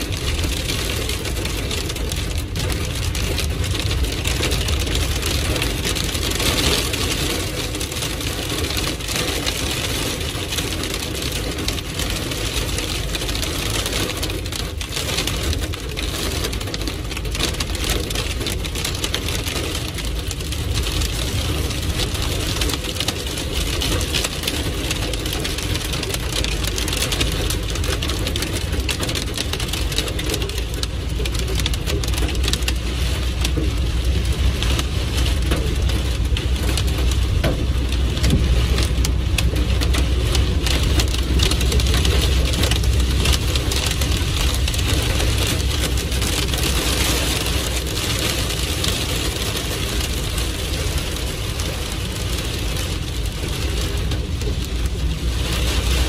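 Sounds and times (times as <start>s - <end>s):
car driving on wet road: 0.0s - 56.0s
rain and hail on car roof: 0.0s - 56.0s.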